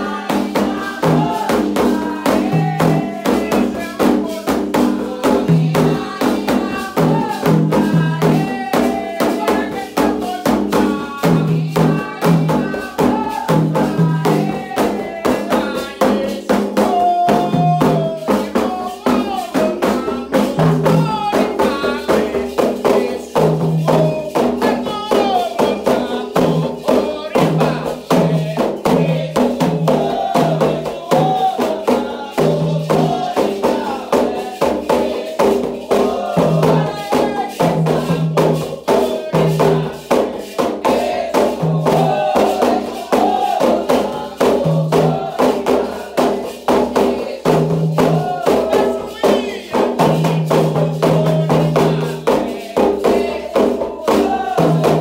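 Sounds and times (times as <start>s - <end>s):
hand drums beating: 0.0s - 55.0s
rattling percussion: 0.0s - 55.0s
sung chant: 0.0s - 55.0s.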